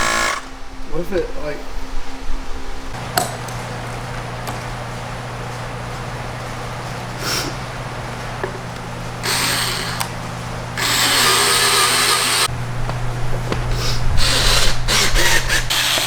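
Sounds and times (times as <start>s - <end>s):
air compressor running: 0.0s - 0.6s, 3.0s - 16.0s
air hissing: 3.0s - 16.0s.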